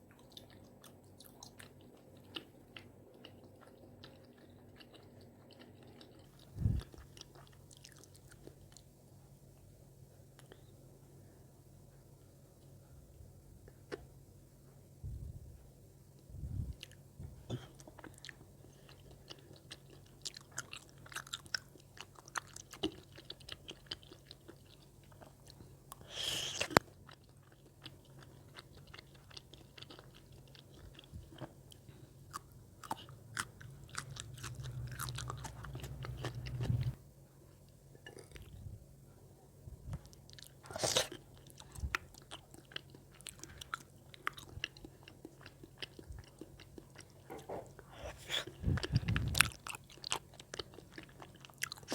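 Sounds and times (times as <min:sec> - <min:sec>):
close-miked chewing: 0:00.0 - 0:09.7, 0:16.6 - 0:38.8, 0:39.5 - 0:51.9.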